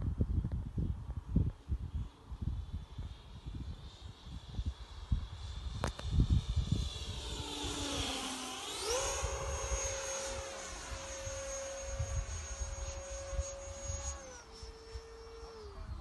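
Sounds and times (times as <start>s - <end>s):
model jet fan whining: 0.1s - 16.0s.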